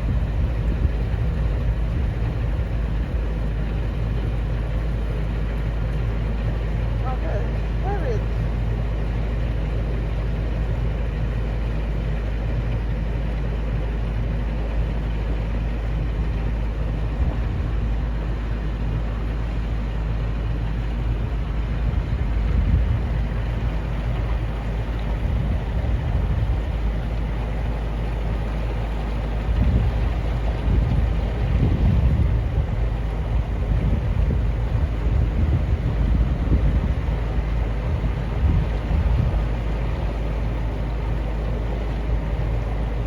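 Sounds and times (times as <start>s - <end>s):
boat engine low rumble: 0.0s - 43.0s.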